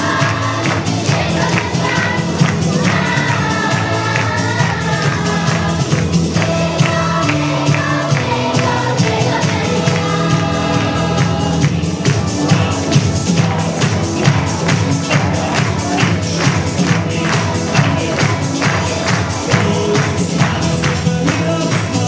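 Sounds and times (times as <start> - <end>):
children's choir singing: 0.0 - 22.0
instrumental accompaniment with beat: 0.0 - 22.0.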